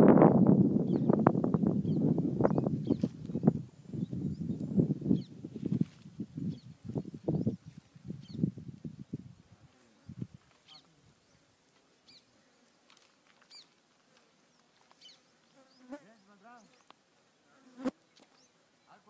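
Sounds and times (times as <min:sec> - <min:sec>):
insect buzzing: 0:00.8 - 0:18.0.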